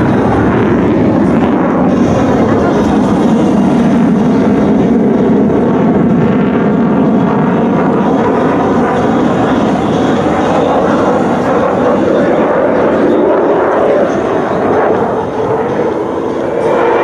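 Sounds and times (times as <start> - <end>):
loud jet engine noise: 0.0 - 17.0.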